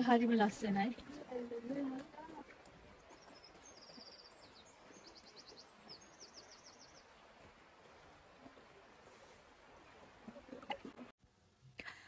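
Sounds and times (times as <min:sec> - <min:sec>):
river flowing: 0:00.0 - 0:11.1.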